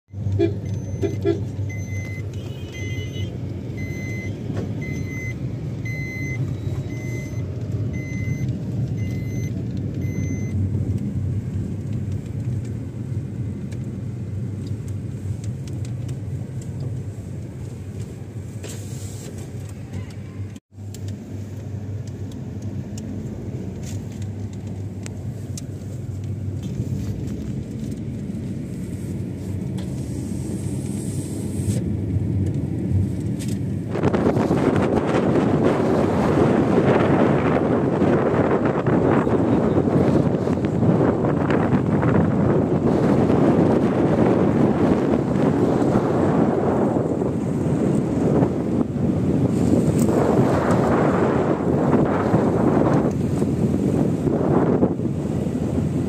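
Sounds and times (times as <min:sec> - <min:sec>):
car engine and road rumble: 0:00.1 - 0:56.0.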